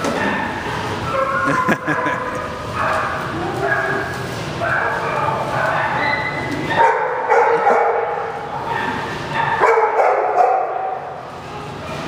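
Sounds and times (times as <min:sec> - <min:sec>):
dog barking: 0:00.1 - 0:11.1.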